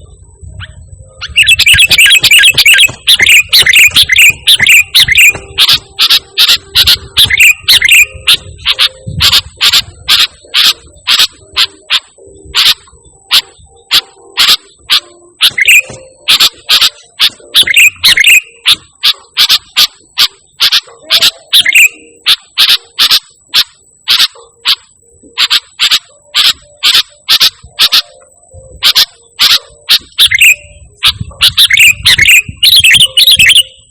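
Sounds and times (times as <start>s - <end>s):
bulbul calling: 0.0s - 33.9s.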